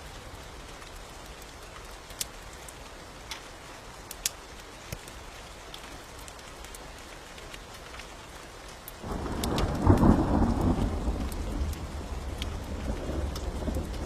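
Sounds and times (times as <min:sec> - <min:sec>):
steady rain: 0:00.0 - 0:14.0
wood fire popping: 0:01.8 - 0:08.1, 0:08.8 - 0:14.0.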